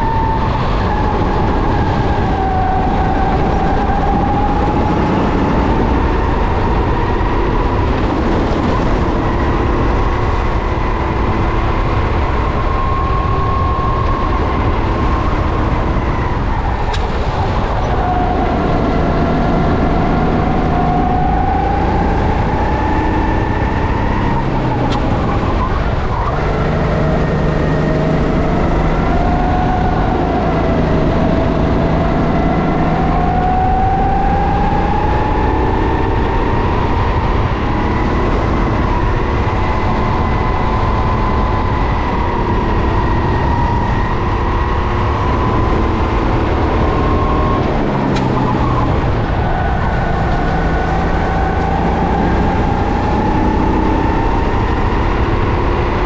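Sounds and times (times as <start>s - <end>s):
racing kart engine revving: 0.0s - 56.0s.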